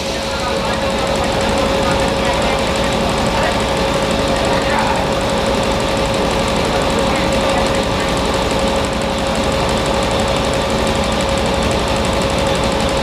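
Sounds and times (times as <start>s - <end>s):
locomotive machinery din: 0.0s - 13.0s.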